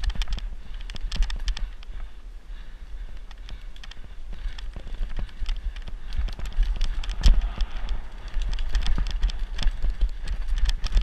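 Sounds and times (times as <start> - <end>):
bike rattling over rough ground: 0.0 - 11.0
wind rumble on microphone: 0.0 - 11.0.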